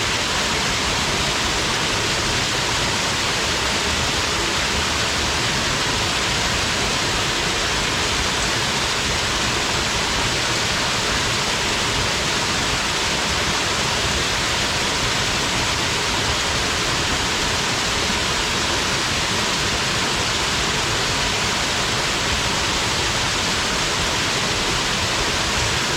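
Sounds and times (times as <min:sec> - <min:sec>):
waterfall splashing into pool: 0:00.1 - 0:25.9.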